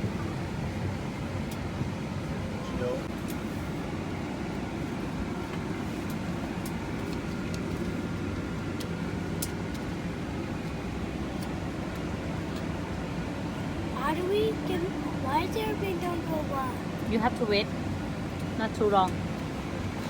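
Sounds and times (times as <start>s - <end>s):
airliner cabin hum: 0.0s - 20.0s.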